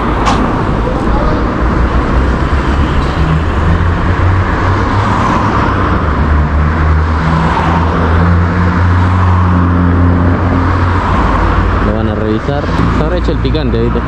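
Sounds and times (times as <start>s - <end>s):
cars passing close by: 0.0s - 14.0s.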